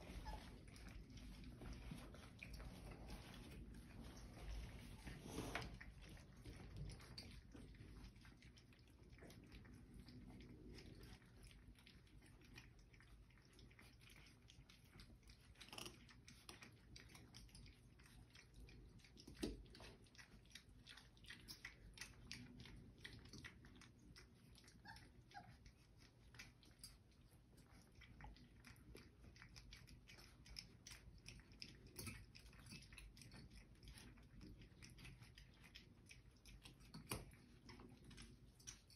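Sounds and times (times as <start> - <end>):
puppies chewing with small clicks: 0.0 - 38.9.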